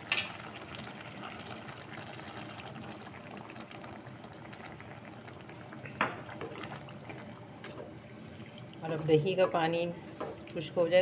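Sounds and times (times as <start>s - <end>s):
curry bubbling in a pot: 0.0s - 11.0s.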